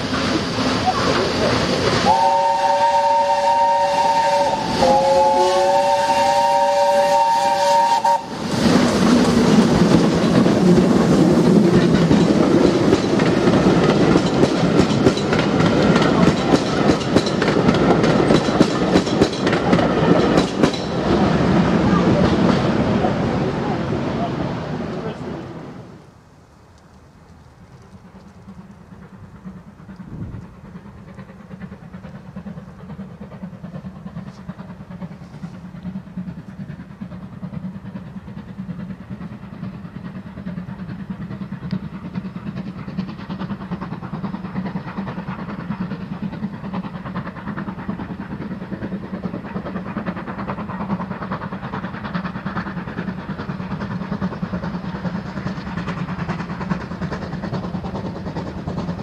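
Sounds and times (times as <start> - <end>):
steam locomotive hauling train: 0.0 - 59.0.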